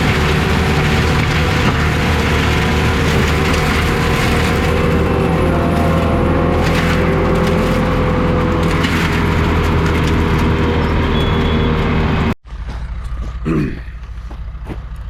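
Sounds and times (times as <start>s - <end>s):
diesel engine running: 0.0s - 15.0s
engine idling: 0.0s - 15.0s.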